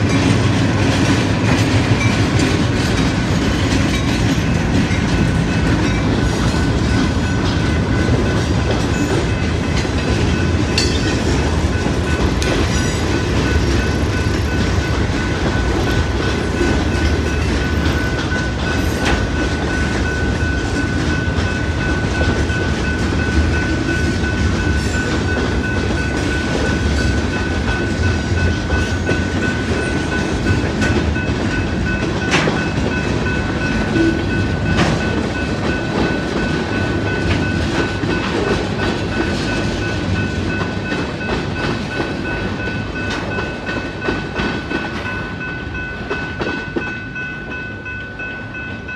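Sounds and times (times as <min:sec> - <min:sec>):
crossing warning bell: 0:00.0 - 0:48.9
freight train rolling past: 0:00.0 - 0:48.9.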